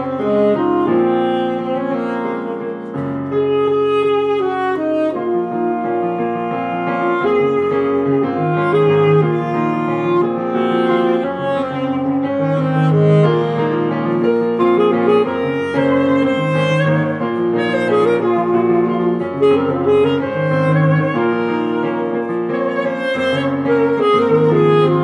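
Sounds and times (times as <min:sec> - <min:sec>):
piano accompaniment: 0:00.0 - 0:25.0
saxophone slow melody: 0:00.0 - 0:25.0.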